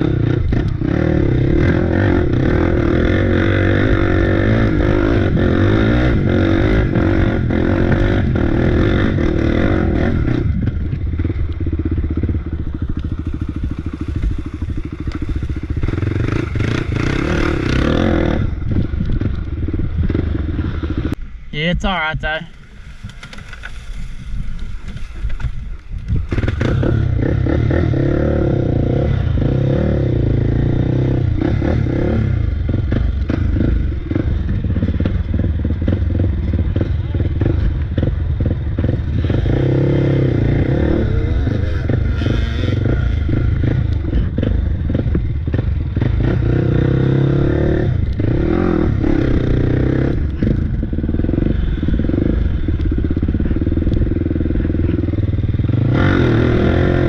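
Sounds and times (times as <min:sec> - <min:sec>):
off-road engine revving: 0:00.0 - 0:21.2, 0:26.2 - 0:57.0.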